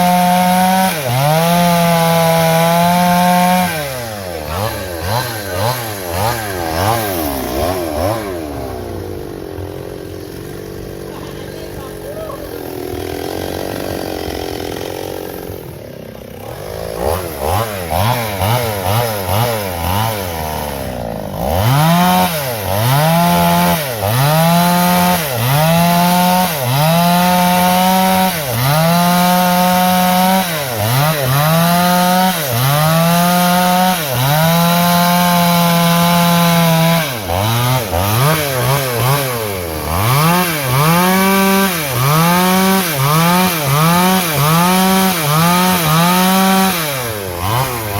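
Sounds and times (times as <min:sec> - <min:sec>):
chainsaw cutting through log: 0:00.0 - 0:47.9
chainsaw engine revving: 0:00.0 - 0:47.9.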